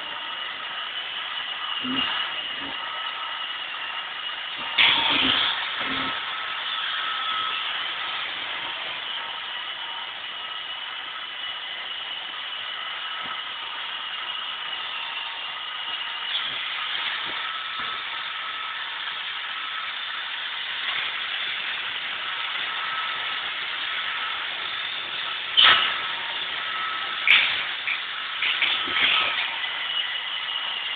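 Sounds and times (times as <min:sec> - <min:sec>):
robot vacuum whirring: 0:00.0 - 0:30.9.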